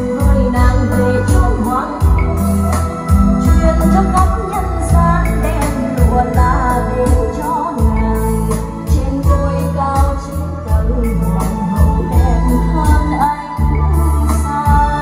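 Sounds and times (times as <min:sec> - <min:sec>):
music with singing and heavy bass: 0:00.0 - 0:15.0.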